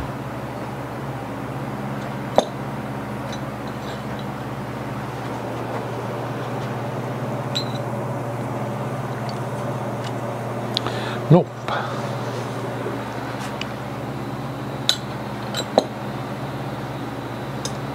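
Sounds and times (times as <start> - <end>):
low mechanical hum: 0.0 - 17.9.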